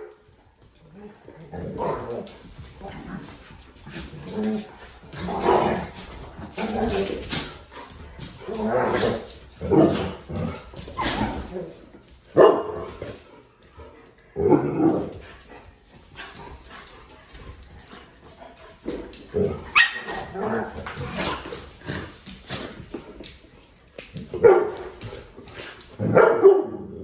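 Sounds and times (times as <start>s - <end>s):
dogs barking in play: 0.0s - 23.4s, 24.0s - 27.0s.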